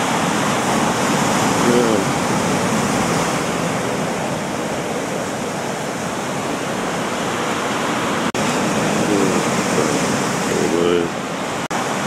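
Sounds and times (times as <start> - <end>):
surf breaking on rocky shore: 0.0 - 12.0.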